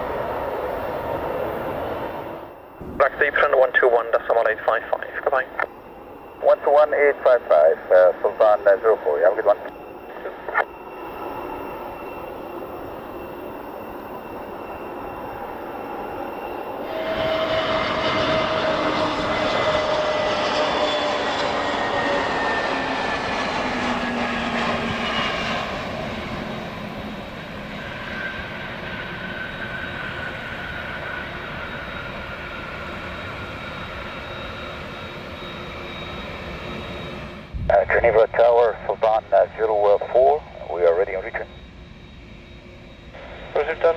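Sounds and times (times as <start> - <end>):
jet engines whining: 0.0 - 43.9.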